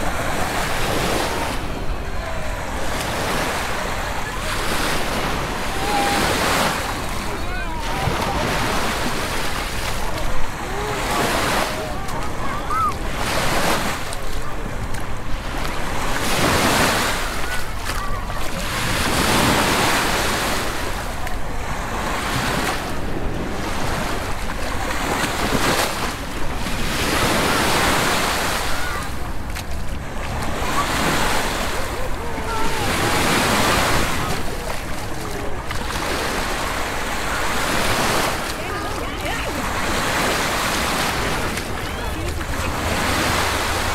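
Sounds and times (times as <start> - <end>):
people chattering faintly: 0.0 - 43.9
waves breaking on sand: 0.0 - 43.9.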